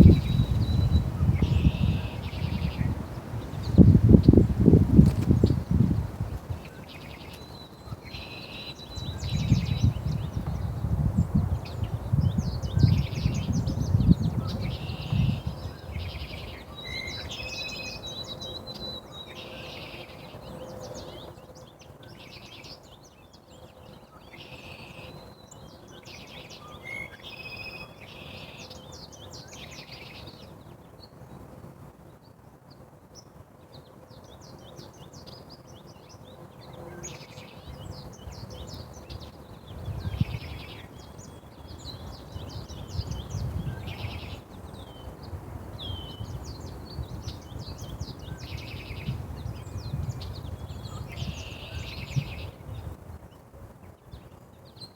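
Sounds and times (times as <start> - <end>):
small birds chirping and singing: 0.0 - 31.4, 32.1 - 54.9
outdoor background noise: 0.0 - 54.9.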